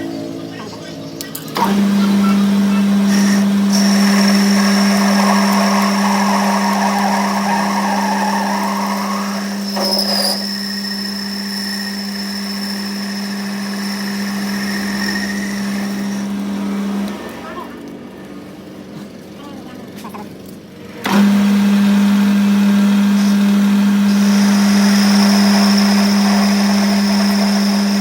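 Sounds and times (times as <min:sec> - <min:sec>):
machine tool motor whining: 0:00.0 - 0:28.0.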